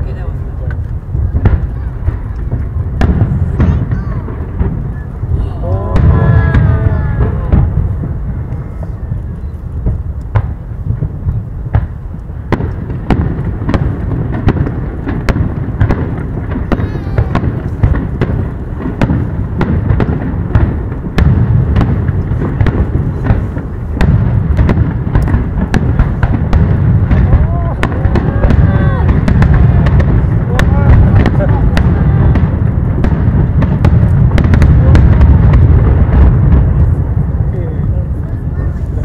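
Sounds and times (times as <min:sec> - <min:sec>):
fireworks bangs: 0:00.0 - 0:39.0
low rumble: 0:00.0 - 0:39.0.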